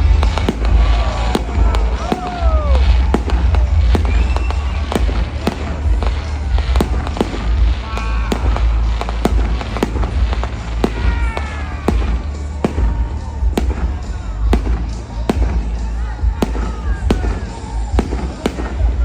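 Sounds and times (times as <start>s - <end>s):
deep continuous rumble: 0.0s - 19.0s
fireworks bangs: 0.0s - 19.0s.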